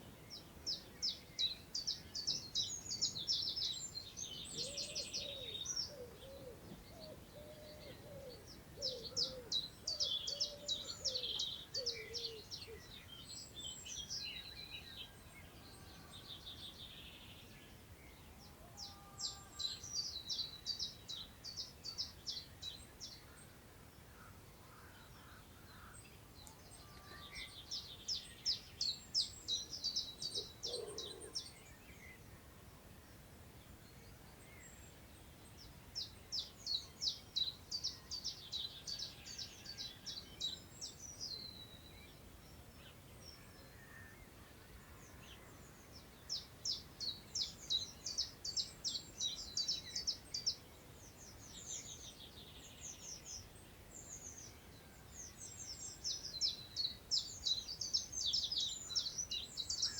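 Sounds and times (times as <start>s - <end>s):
wind through long grass: 0.0s - 59.9s.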